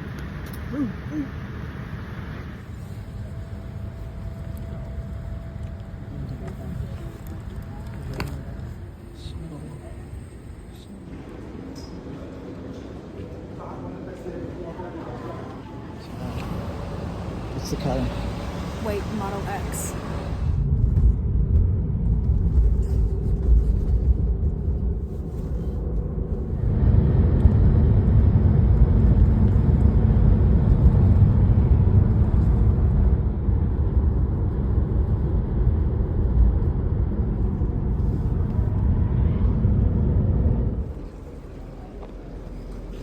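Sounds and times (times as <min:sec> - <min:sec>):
car road and engine rumble: 0:00.0 - 0:11.2, 0:16.0 - 0:43.0.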